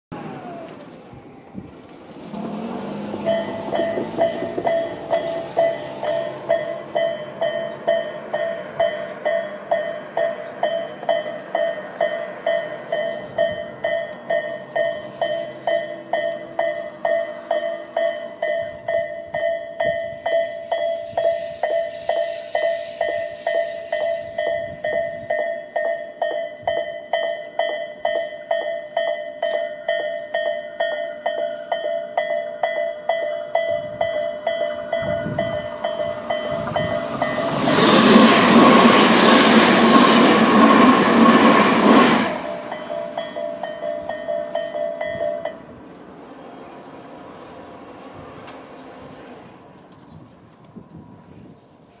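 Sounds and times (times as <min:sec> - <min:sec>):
level-crossing warning bell: 0:00.1 - 0:49.6.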